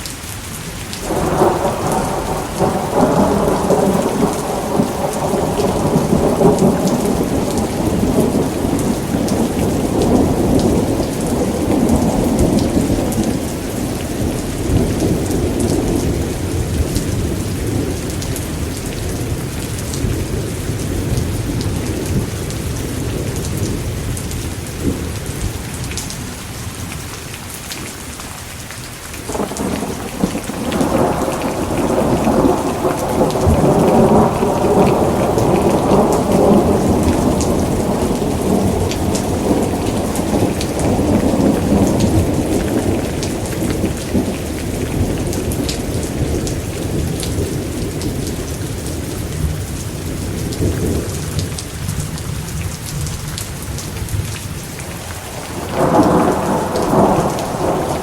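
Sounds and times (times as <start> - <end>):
heavy rain: 0.0 - 58.0
rolling thunder: 1.0 - 25.8, 29.3 - 52.2, 53.2 - 58.0.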